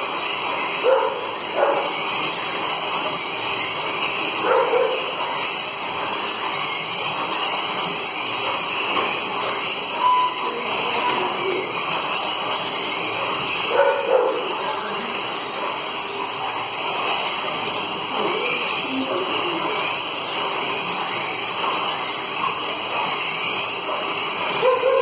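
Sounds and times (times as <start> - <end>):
slot car motors whining: 0.0 - 25.0.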